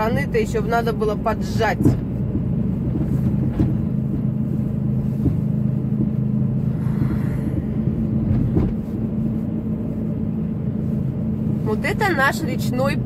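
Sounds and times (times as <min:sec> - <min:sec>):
car engine and tyres humming: 0:00.0 - 0:13.0.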